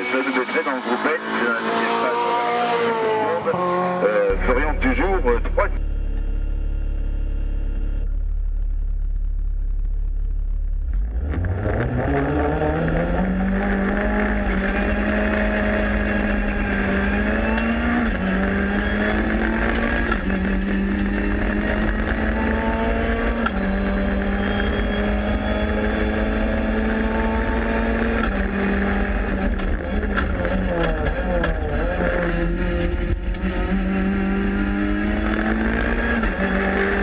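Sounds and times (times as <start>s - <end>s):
car engine revving hard: 0.0s - 5.3s, 11.0s - 37.0s.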